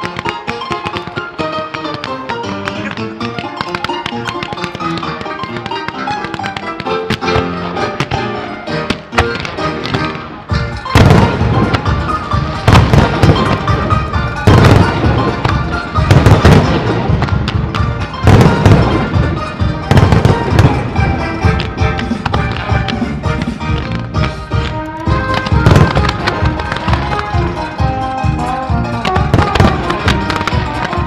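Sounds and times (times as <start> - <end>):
fireworks bursting: 0.0 - 27.9, 29.0 - 31.0
music playing: 0.0 - 31.0.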